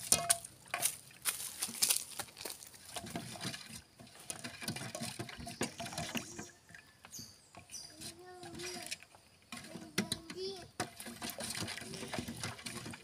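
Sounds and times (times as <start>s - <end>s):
milk sloshing: 0.0s - 13.0s.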